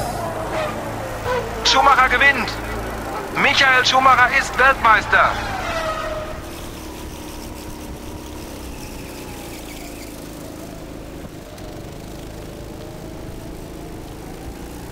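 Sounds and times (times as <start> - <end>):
go-kart engine droning: 0.0 - 14.9.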